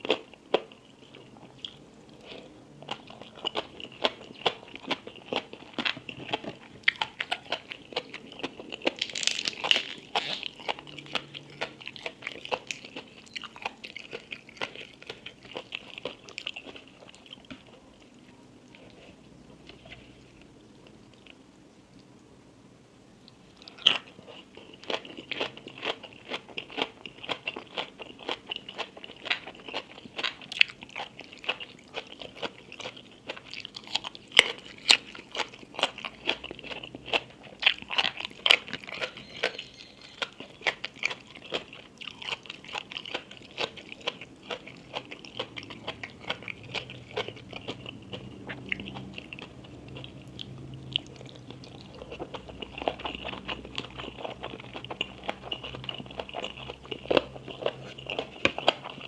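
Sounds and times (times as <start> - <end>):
chewing crunchy food: 0.0 - 22.1, 23.2 - 59.0.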